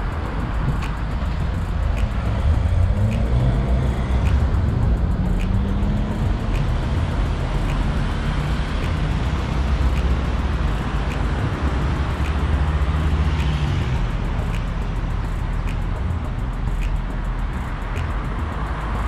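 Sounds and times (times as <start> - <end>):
bicycle road rumble: 0.0 - 19.0
wind noise: 0.0 - 19.0.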